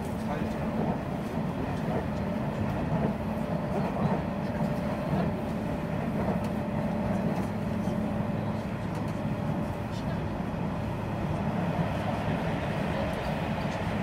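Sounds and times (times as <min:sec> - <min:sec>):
steady train hum: 0:00.0 - 0:14.0
train wheels rumbling on rails: 0:00.0 - 0:14.0.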